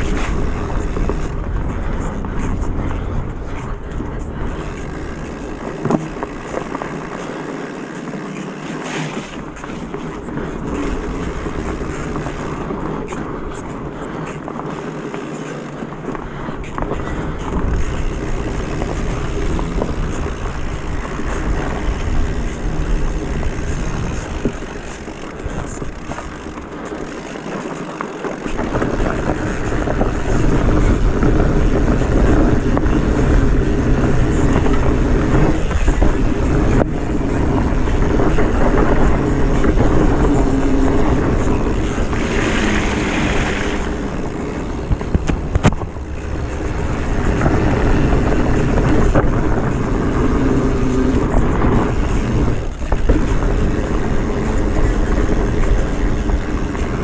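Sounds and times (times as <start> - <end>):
off-road vehicle engine running: 0.0 - 57.0
rush of noise: 0.0 - 57.0.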